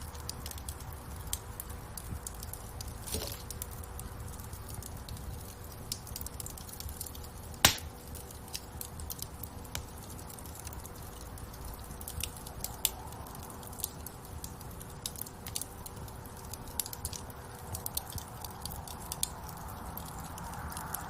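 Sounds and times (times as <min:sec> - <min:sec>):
low steady rumble: 0:00.0 - 0:21.0
wood fire crackling: 0:00.0 - 0:21.0.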